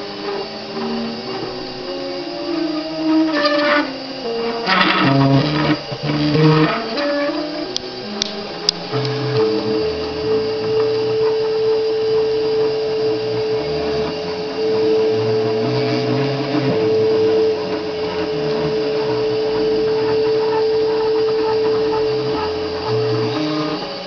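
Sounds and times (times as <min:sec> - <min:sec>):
stepper motors whining: 0:00.0 - 0:24.0.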